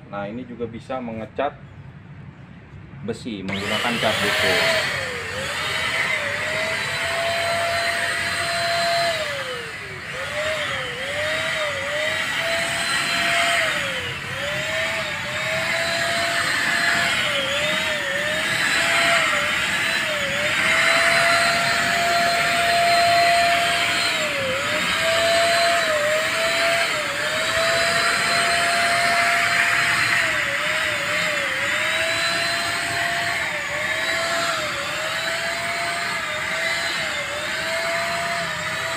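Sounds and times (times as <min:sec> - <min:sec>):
electric spray gun motor whine: 0:03.5 - 0:38.9.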